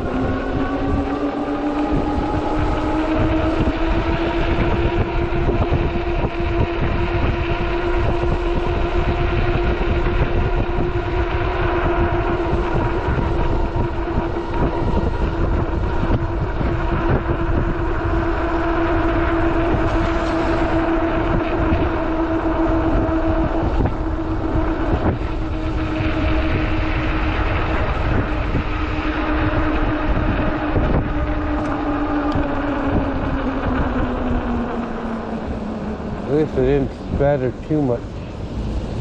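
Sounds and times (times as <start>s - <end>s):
electric motor whining: 0.0s - 39.0s
wind and tyre noise: 0.0s - 39.0s.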